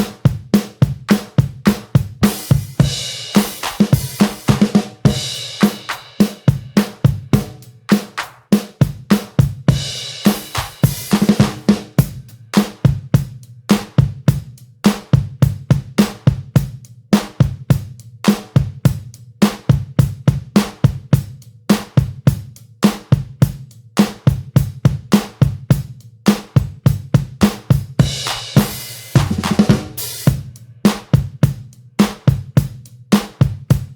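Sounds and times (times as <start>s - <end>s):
drum kit beat: 0.0s - 33.9s.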